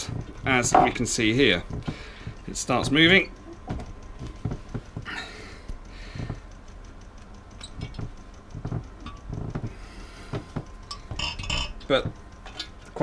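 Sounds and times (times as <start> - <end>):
light metal knocks and clicks: 0.0 - 5.1, 7.6 - 13.0.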